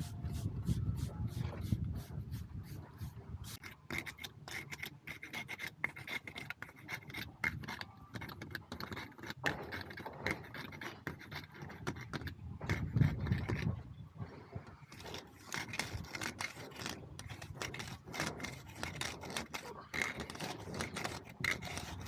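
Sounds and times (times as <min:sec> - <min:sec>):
joint roller scraping mortar: 0:00.0 - 0:13.8, 0:14.5 - 0:22.0.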